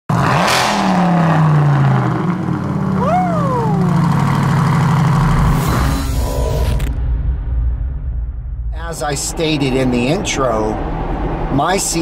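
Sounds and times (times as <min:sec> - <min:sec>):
car engine revving and idling: 0:00.1 - 0:07.0, 0:08.8 - 0:12.0.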